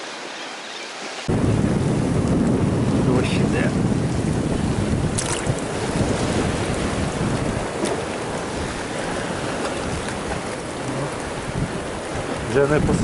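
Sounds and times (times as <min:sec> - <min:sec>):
rain: 0:00.0 - 0:13.0
sea surf: 0:00.0 - 0:13.0
wind buffeting microphone: 0:01.2 - 0:13.0.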